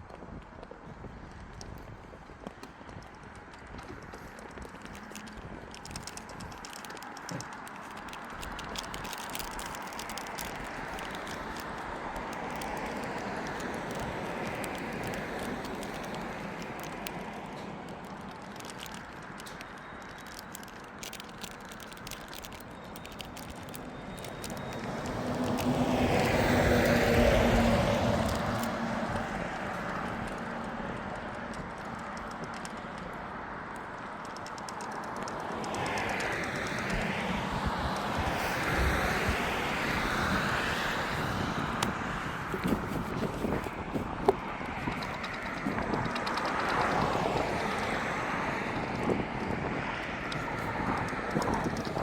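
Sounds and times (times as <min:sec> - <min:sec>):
tyre noise of passing vehicles: 0:00.0 - 0:52.0
small scattered ticks: 0:00.1 - 0:52.0.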